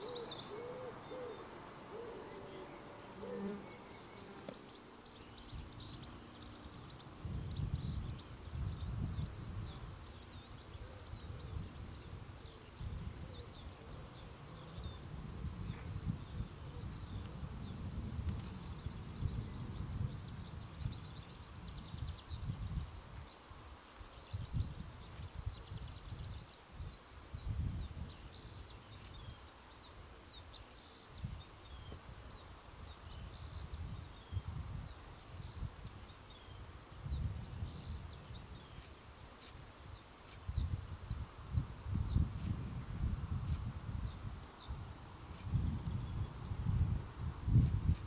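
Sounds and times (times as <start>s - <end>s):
small birds chirping and singing: 0.0s - 48.0s.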